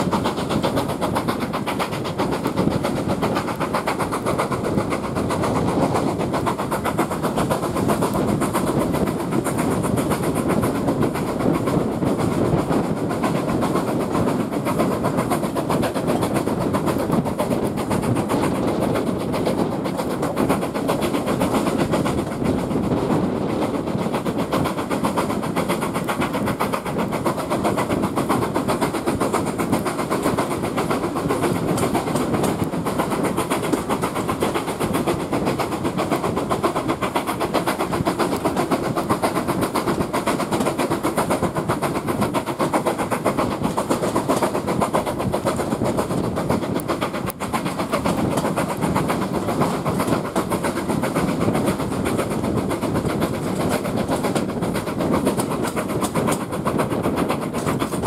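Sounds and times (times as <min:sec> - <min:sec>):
train carriages rumbling: 0:00.0 - 0:58.0.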